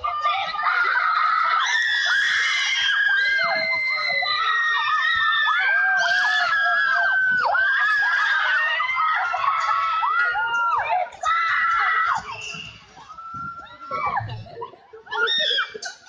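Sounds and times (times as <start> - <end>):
girls screaming and shouting: 0.0 - 14.5, 15.1 - 15.9.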